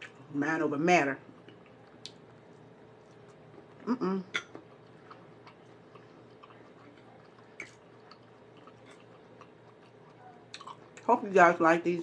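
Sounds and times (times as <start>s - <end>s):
faint chewing: 1.2s - 11.2s.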